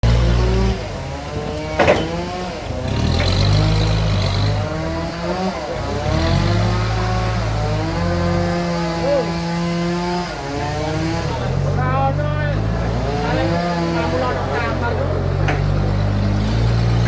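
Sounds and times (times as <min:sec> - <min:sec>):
band saw cutting log: 0:00.1 - 0:17.0.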